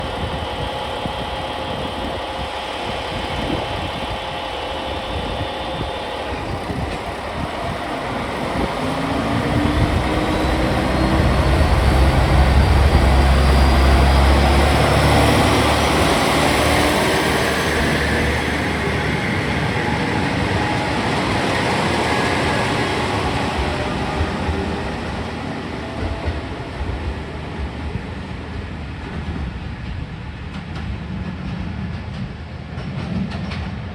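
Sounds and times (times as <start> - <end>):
rising whine: 0.0 - 29.7
diesel train engine rumble: 0.0 - 33.9.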